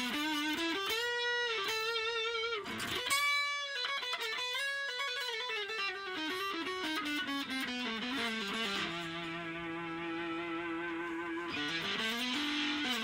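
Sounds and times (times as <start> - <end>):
electric guitar lead phrases: 0.0 - 13.0.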